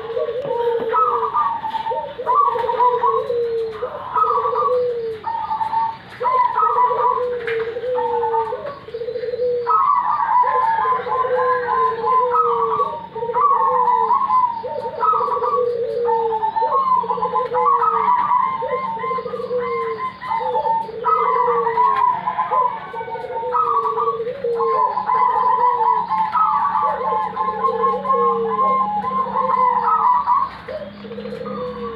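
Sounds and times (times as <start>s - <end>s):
doves cooing: 0.0s - 31.9s.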